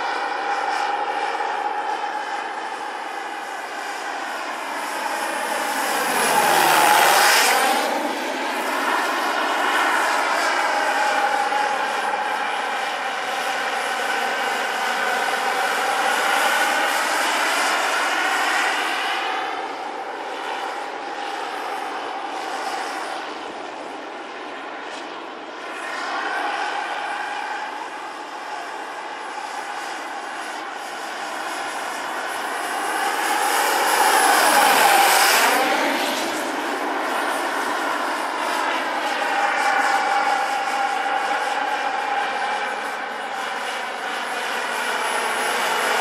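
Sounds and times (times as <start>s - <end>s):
model helicopter turbine and rotor: 0.0s - 46.0s.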